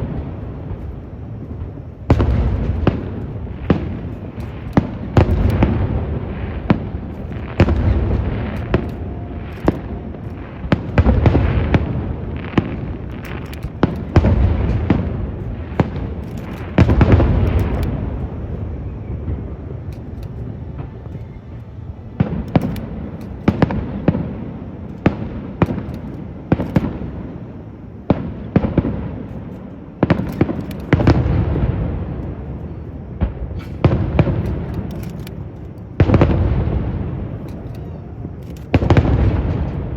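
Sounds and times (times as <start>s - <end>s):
firework booms: 0.0s - 37.4s, 38.7s - 39.9s
firework crackling: 0.0s - 39.9s.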